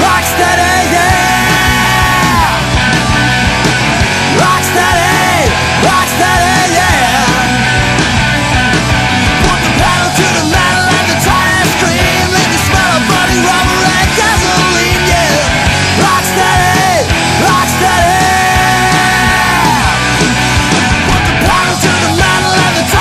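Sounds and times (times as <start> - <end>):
rock music with distorted guitars: 0.0 - 23.0.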